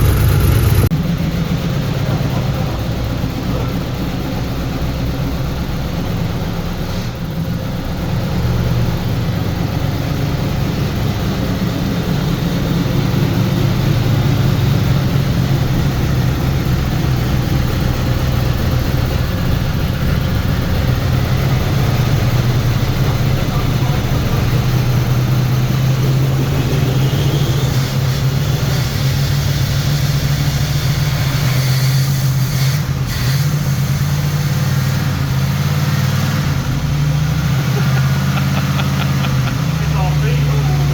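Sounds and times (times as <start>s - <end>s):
car engine running steadily: 0.0s - 40.9s.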